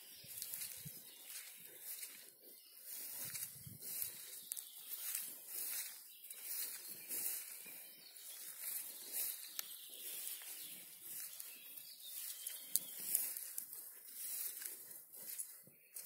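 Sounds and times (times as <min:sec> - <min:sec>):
footsteps through long grass: 0:00.0 - 0:16.0.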